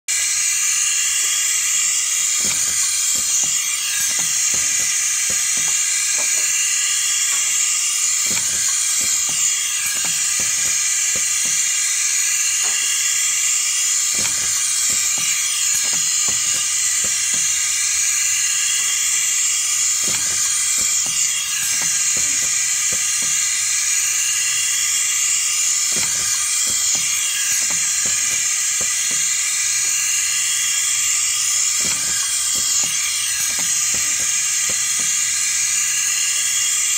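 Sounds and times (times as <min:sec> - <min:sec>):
light machine clicks: 0:00.1 - 0:36.9
printing machine hiss: 0:00.1 - 0:36.9.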